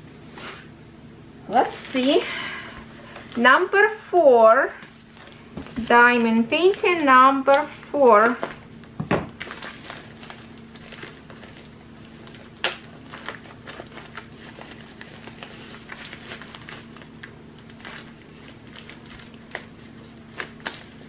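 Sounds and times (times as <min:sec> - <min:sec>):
bubble-wrap mailer crinkling: 0:02.0 - 0:21.0.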